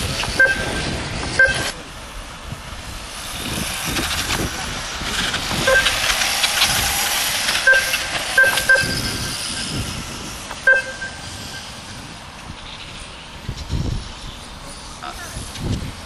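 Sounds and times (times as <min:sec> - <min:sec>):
electric motorbikes whining past: 0:00.0 - 0:16.0.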